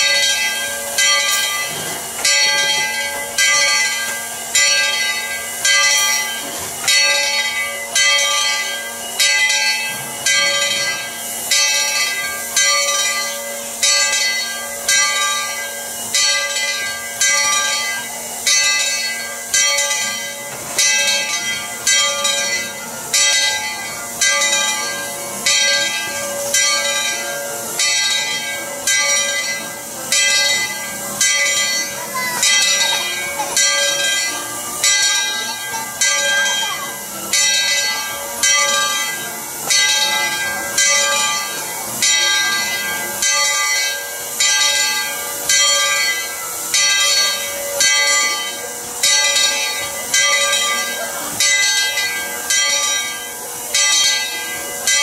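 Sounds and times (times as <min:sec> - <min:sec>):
locomotive bell ringing: 0:00.0 - 0:55.0
steam hissing: 0:00.0 - 0:55.0.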